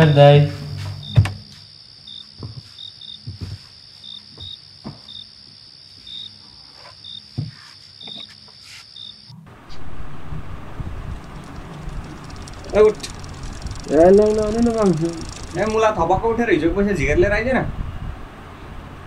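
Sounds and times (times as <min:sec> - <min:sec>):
crickets chirping: 0:00.0 - 0:16.8.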